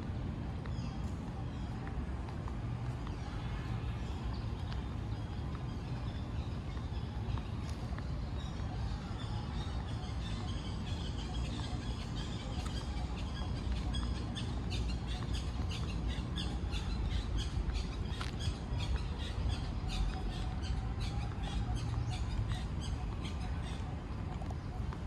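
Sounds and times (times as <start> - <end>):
birds chirping: 4.0 - 25.0.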